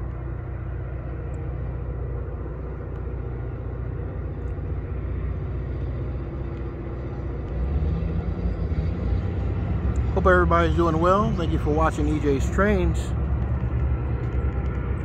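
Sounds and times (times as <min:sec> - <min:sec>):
distant diesel locomotive rumble: 0:00.0 - 0:15.0.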